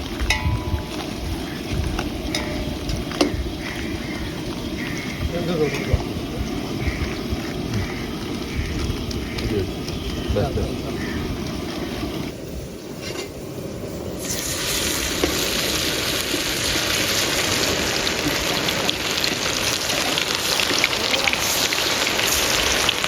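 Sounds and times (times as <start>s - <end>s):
oil sizzling in a pan: 0.0s - 12.3s, 14.1s - 23.0s.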